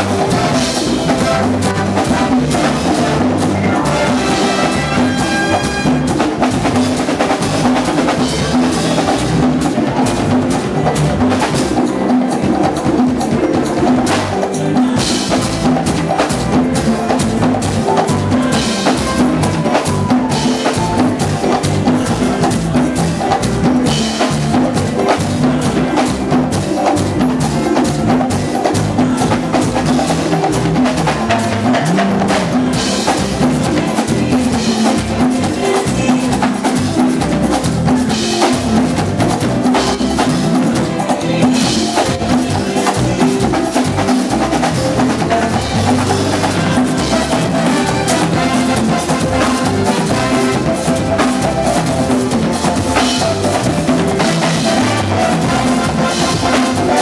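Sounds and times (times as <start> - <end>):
hand drums: 0.0 - 57.0
latin dance band playing: 0.0 - 57.0
people singing: 0.0 - 57.0.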